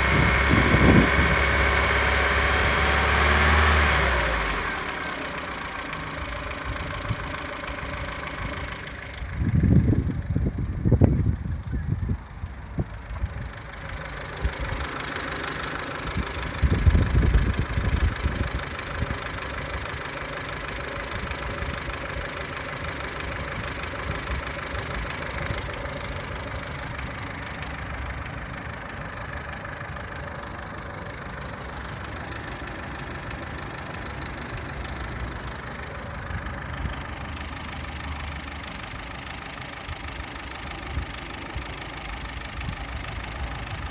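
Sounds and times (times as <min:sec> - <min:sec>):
car engine idling: 0:00.0 - 0:43.9
fast light engine ticking: 0:00.0 - 0:43.9
low engine rumble: 0:00.0 - 0:43.9.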